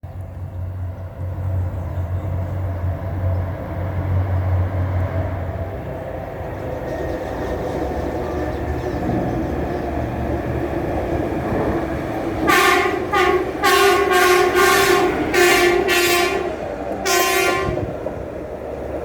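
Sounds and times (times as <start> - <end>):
rail running noise: 0.0 - 19.0.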